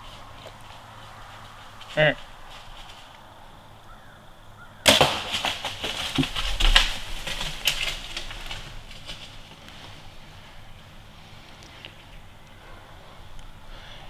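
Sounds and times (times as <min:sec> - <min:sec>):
deer running through dry leaves: 0:00.0 - 0:04.0, 0:04.8 - 0:14.0.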